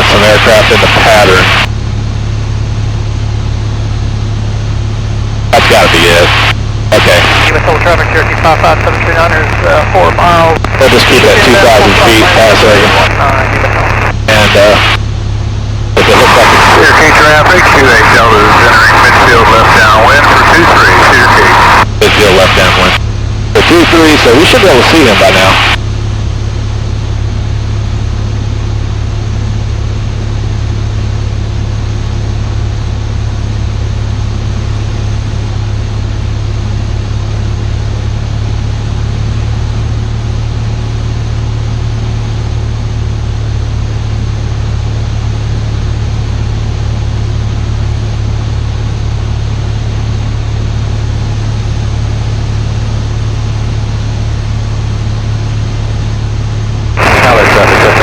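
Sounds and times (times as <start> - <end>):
light aircraft engine drone in cockpit: 0.0 - 58.0.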